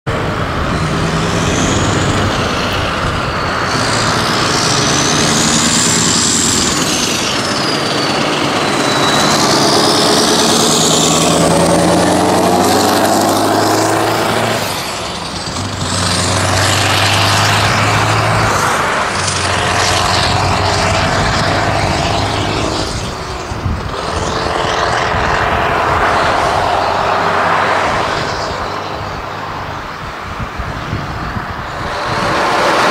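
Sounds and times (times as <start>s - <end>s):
diesel truck accelerating past: 0.1s - 32.9s.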